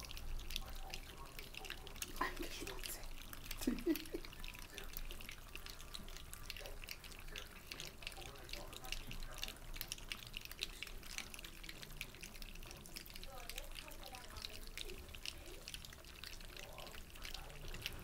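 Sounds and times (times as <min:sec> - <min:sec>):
puppies lapping from bowls: 0:00.0 - 0:18.0.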